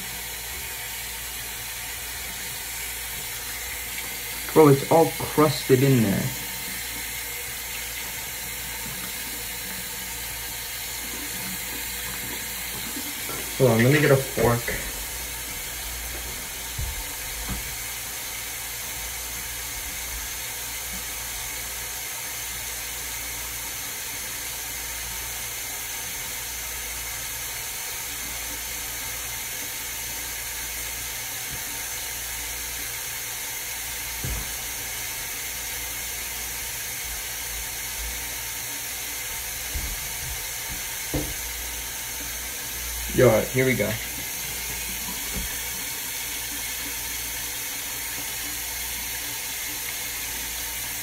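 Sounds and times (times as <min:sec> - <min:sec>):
water tap running into sink: 0:00.0 - 0:51.0.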